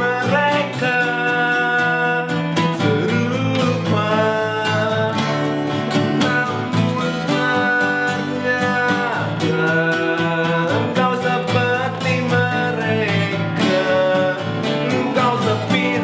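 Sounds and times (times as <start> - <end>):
acoustic guitars strumming: 0.0 - 16.0
man singing: 0.0 - 16.0.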